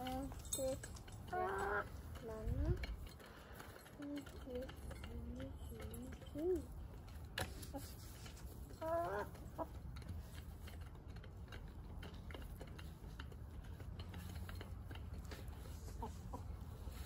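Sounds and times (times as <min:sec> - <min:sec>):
hens clucking: 0:00.1 - 0:11.4, 0:12.0 - 0:17.0.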